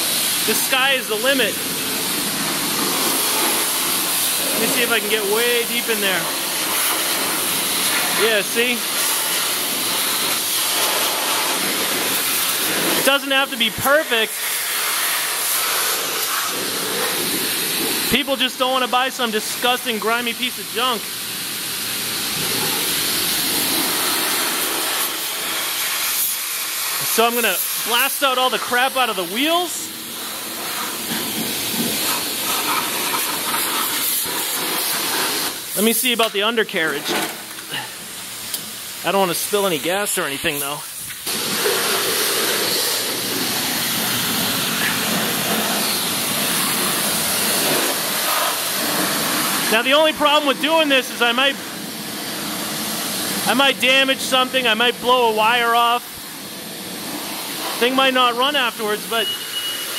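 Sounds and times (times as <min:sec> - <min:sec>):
pressure washer spraying water: 0:00.0 - 0:59.9.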